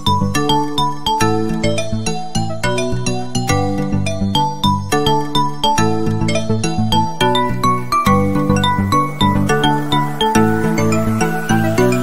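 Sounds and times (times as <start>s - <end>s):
bright light music: 0.0s - 12.0s.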